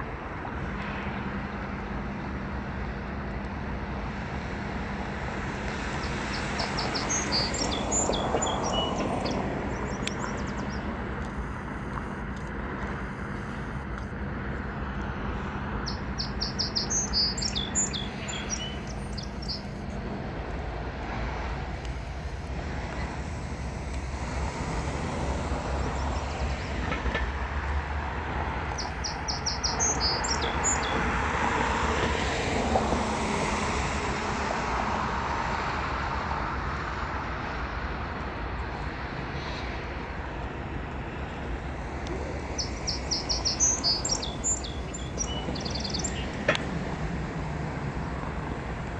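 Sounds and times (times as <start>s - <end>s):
diesel locomotive engines rumbling: 0.0s - 48.9s.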